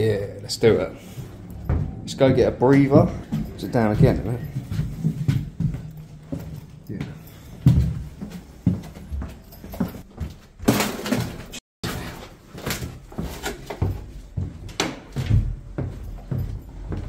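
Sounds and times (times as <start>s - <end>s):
footsteps on staircase: 0.6s - 11.6s, 12.2s - 17.0s.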